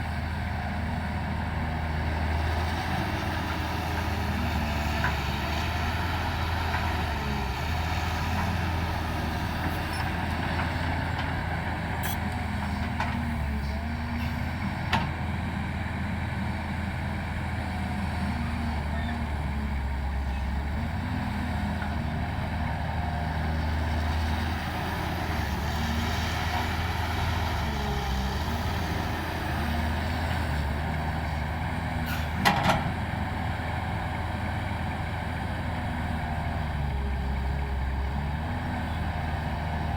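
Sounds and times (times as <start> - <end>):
heavy diesel machines running: 0.0 - 39.9.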